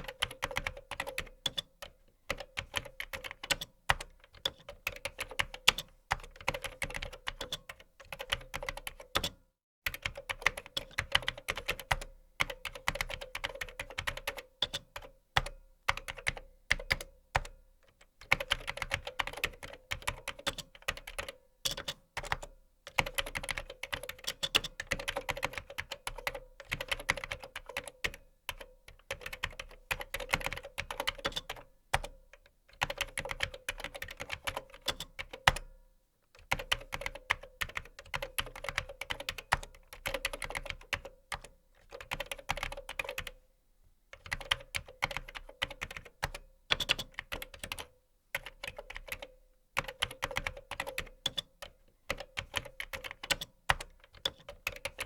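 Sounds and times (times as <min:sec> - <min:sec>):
fast typing on keyboard: 0:00.0 - 0:09.3, 0:09.9 - 0:17.5, 0:18.2 - 0:32.2, 0:32.8 - 0:35.6, 0:36.4 - 0:43.4, 0:44.2 - 0:55.0.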